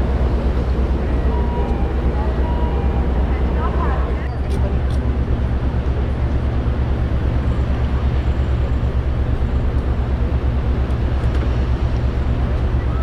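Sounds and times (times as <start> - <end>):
ship engine rumbling: 0.0 - 13.0.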